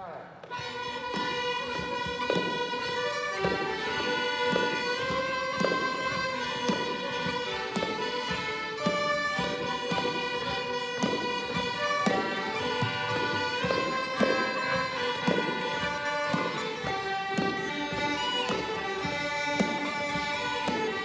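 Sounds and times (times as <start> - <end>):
button accordions: 0.4 - 21.0
fiddles: 0.4 - 21.0.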